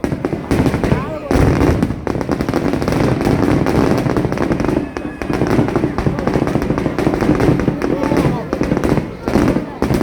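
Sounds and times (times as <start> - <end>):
fireworks crackling: 0.0 - 10.0.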